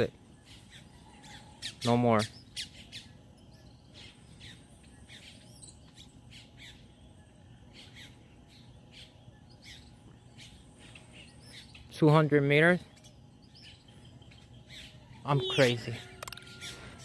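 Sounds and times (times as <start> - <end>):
birds chirping faintly: 0.0 - 17.0
low background hum: 0.0 - 17.0.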